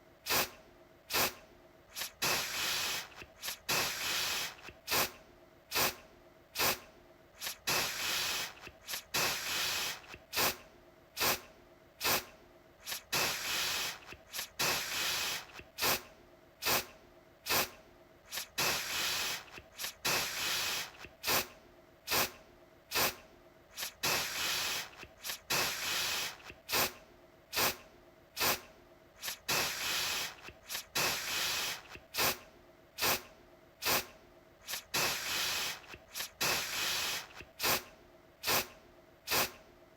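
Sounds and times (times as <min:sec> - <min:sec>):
aerosol can spraying: 0:00.3 - 0:06.0, 0:06.6 - 0:06.8, 0:07.4 - 0:10.6, 0:11.2 - 0:11.4, 0:12.0 - 0:16.9, 0:17.5 - 0:21.5, 0:22.1 - 0:27.8, 0:28.4 - 0:32.4, 0:33.0 - 0:38.7, 0:39.3 - 0:39.6.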